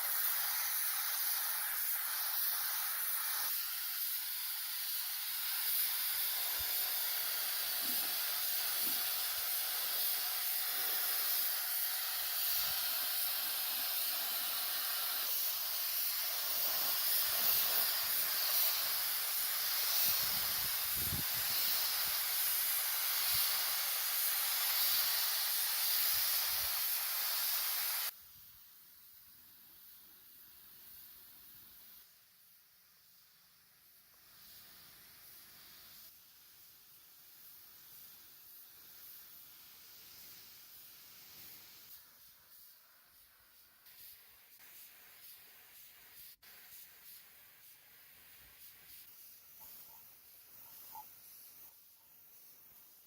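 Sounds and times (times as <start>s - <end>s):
pressurised spray hissing: 0.0s - 53.0s.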